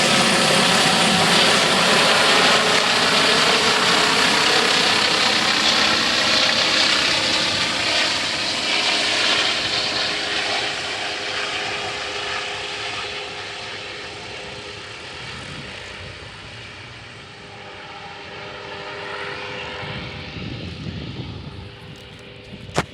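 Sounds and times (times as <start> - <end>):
aircraft engine and propeller: 0.0 - 22.9.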